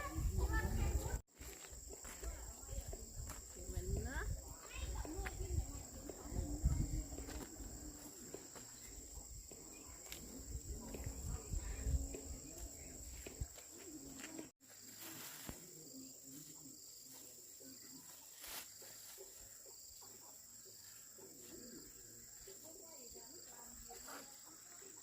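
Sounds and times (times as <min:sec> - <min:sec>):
faint movement noise: 0:00.0 - 0:24.9
insects trilling: 0:00.0 - 0:25.0.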